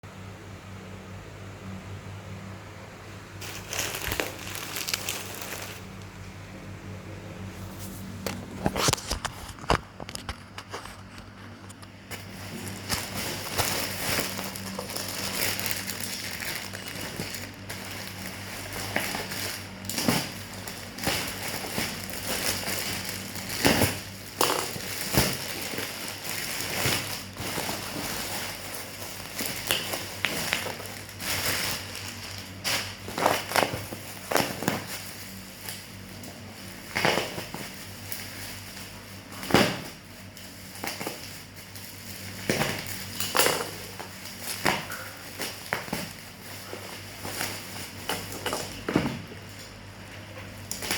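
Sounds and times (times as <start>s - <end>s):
steady low hum: 0.0s - 50.9s
packaging crinkling and rustling: 3.4s - 6.3s, 7.7s - 50.9s.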